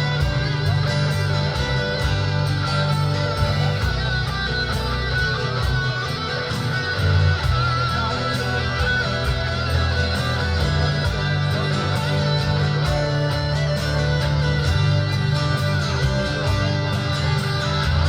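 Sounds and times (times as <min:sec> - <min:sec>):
bass line: 0:00.0 - 0:18.0
guitars playing: 0:00.0 - 0:18.0
regular beat: 0:00.0 - 0:18.0.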